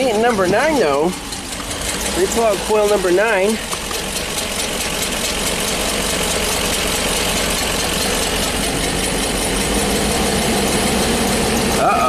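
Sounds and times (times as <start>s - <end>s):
misfiring engine running unevenly: 0.0s - 12.0s.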